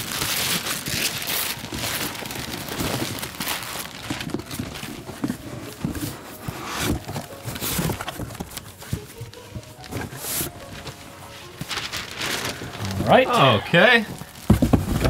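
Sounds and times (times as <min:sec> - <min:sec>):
wrapping paper tearing: 0:00.0 - 0:15.0.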